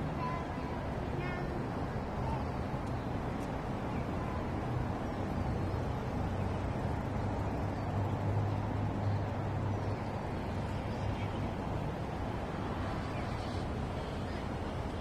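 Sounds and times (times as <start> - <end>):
city road traffic rumble: 0.0 - 15.0.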